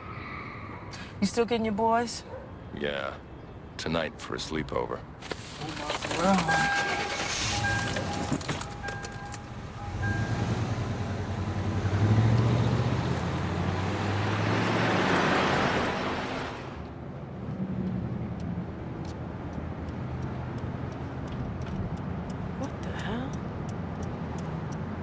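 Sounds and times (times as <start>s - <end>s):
road and traffic noise: 0.0s - 25.0s
street background: 0.0s - 25.0s.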